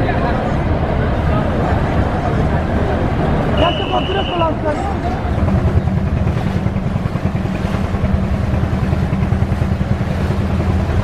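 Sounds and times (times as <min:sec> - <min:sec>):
boat engine droning: 0:00.0 - 0:11.0
wind: 0:00.0 - 0:11.0.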